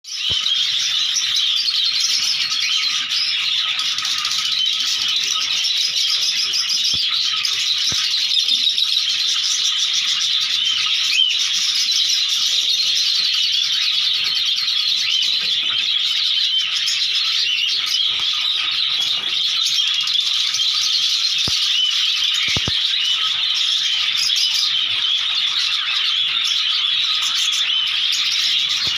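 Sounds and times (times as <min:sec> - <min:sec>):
flock of cockatiels chirping: 0:00.1 - 0:28.9.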